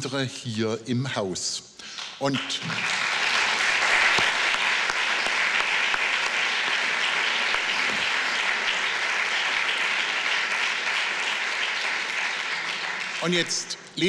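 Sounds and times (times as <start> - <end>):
audience applauding: 2.0 - 13.8.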